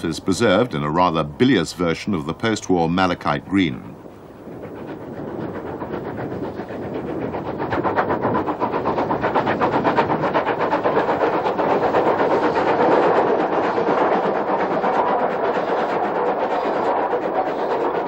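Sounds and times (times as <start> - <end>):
steam locomotive exhaust beats: 0.0 - 18.0.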